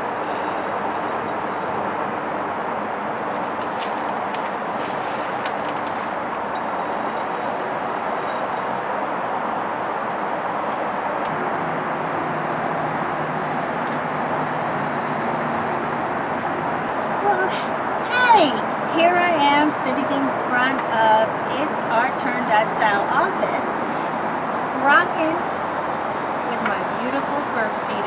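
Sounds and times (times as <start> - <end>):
steady outdoor background noise: 0.0 - 28.0.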